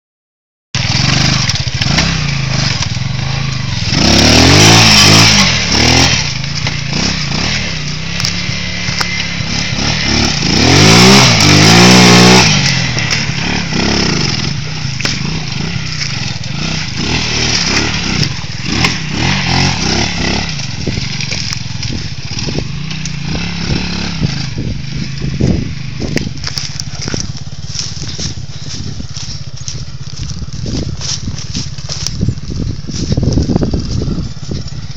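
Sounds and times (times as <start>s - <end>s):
quad bike engine revving: 0.8s - 34.9s.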